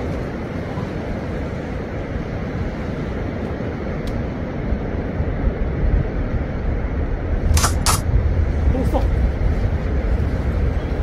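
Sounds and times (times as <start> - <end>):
sea waves rumbling: 0.0 - 11.0
wind: 0.0 - 11.0.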